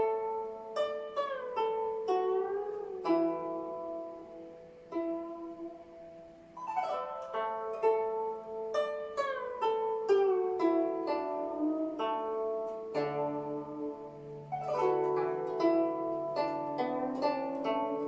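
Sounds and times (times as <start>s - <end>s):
plucked zither notes: 0.0s - 18.0s.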